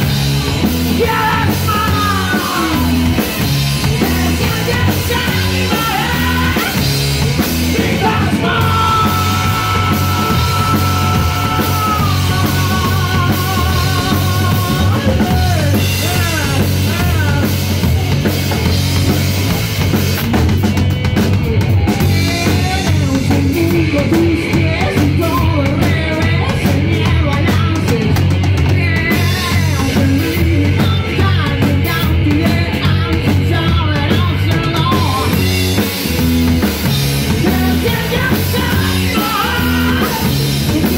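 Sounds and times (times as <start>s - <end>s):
live rock band playing: 0.0s - 40.9s
person singing: 0.6s - 18.2s, 21.9s - 35.4s, 37.3s - 40.9s.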